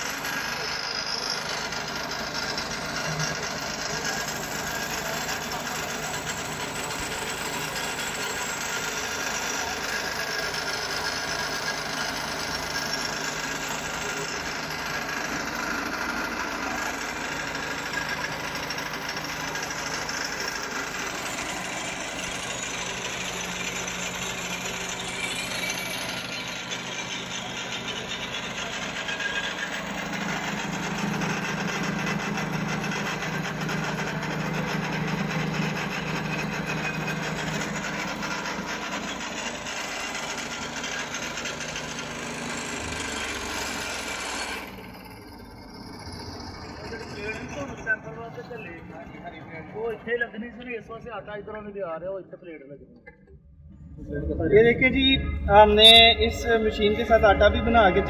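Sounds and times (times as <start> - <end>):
grinding mill grinding: 0.0 - 48.1
small engine running: 0.0 - 50.8, 53.5 - 58.0.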